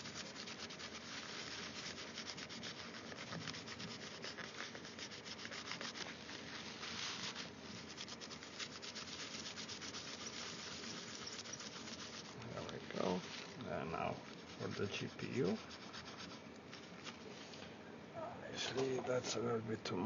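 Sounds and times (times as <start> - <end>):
rapid rubbing: 0.0 - 17.3.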